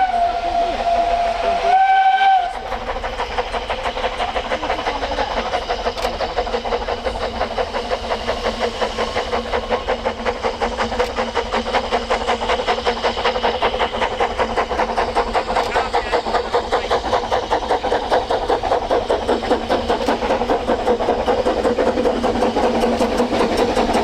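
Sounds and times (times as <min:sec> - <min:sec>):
steam locomotive exhaust beating: 0:00.0 - 0:24.0.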